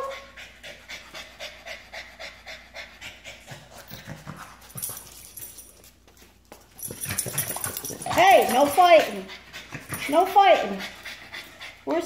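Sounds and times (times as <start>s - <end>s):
dog panting quickly: 0.0s - 4.9s, 6.8s - 12.0s.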